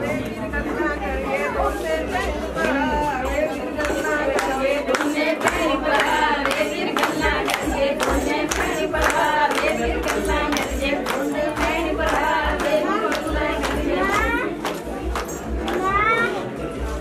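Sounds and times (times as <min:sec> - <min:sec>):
group of voices singing: 0:00.0 - 0:15.4
hands clapping a beat: 0:02.1 - 0:16.1.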